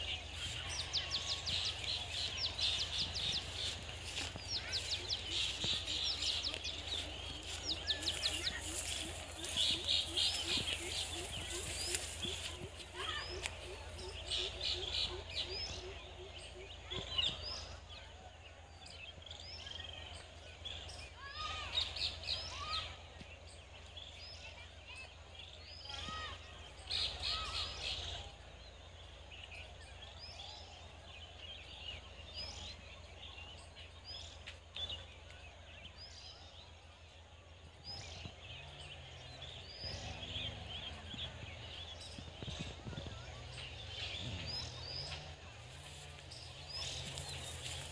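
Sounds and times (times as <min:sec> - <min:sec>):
birds chirping and calling: 0:00.0 - 0:18.0, 0:19.0 - 0:47.9.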